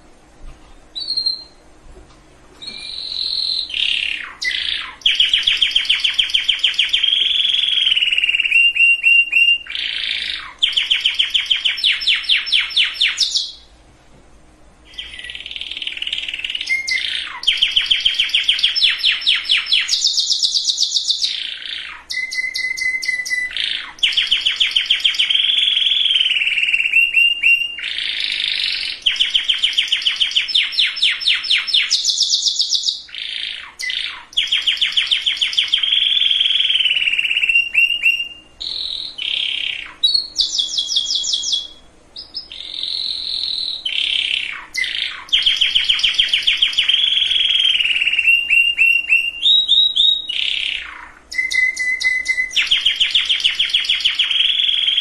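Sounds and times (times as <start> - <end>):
canary singing trills: 0.8 - 1.8, 2.6 - 13.8, 14.8 - 55.0.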